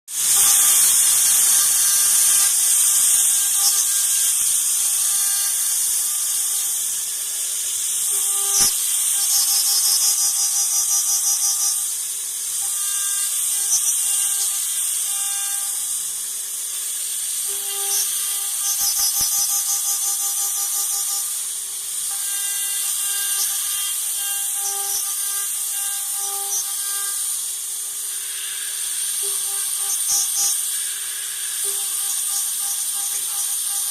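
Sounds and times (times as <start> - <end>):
milling machine spindle whine: 0.1 - 33.9
faint rhythmic machine chatter: 0.2 - 33.9.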